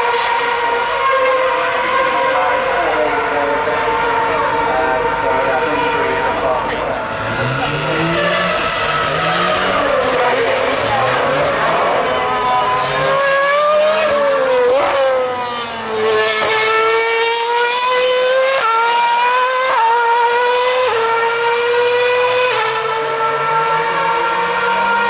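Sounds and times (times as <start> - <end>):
race cars passing: 0.0 - 25.0
racing car engine at high revs: 0.0 - 25.0.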